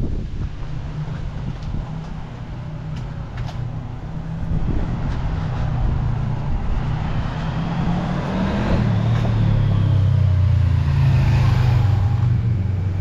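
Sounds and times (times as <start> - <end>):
car engine approaching: 0.0 - 13.0
motorcycle engine approaching: 0.5 - 13.0.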